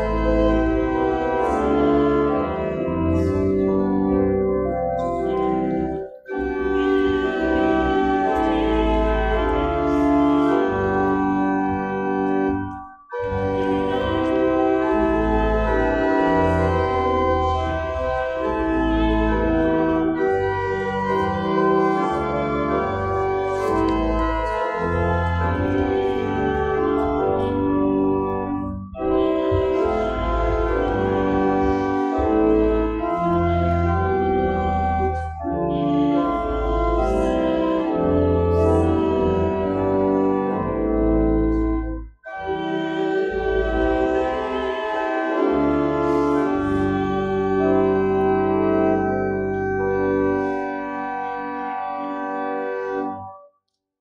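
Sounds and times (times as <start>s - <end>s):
church organ chords: 0.0s - 53.5s.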